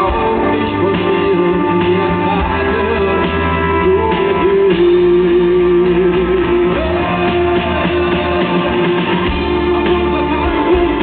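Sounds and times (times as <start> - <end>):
pop-rock band playing live: 0.0 - 11.0.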